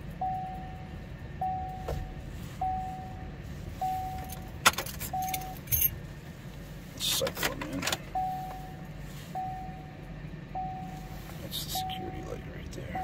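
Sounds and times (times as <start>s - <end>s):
car warning chime: 0.1s - 5.9s, 7.8s - 13.0s.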